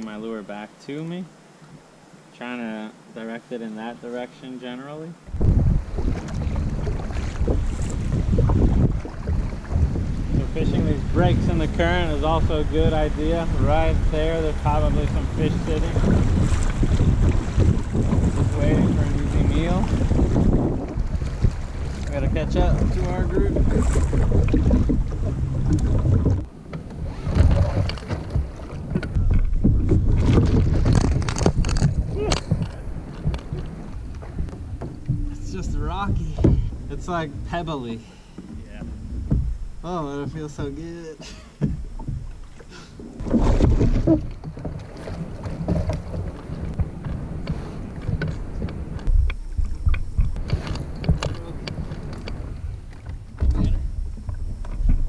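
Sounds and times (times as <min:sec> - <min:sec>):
water splashing around kayak: 0:00.0 - 0:55.0
wind rumbling on microphone: 0:05.3 - 0:55.0.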